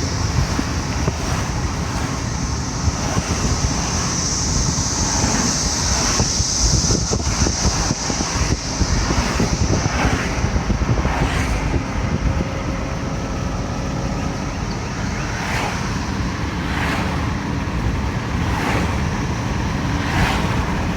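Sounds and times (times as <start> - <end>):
cicadas buzzing: 0.0 - 20.9
loud low rumble: 0.0 - 20.9.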